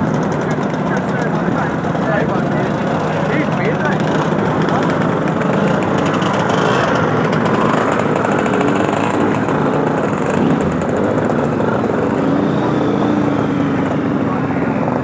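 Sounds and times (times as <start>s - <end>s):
two-stroke scooter engines: 0.0s - 15.0s.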